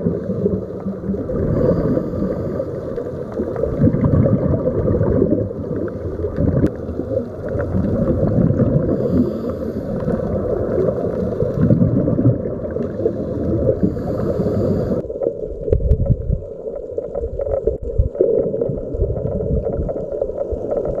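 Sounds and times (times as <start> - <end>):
underwater rumbling and gurgling: 0.0 - 21.0.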